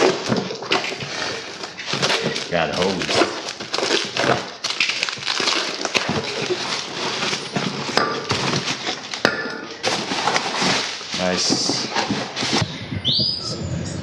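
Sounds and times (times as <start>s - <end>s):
rubber hoses and packaging rustling: 0.0s - 13.4s.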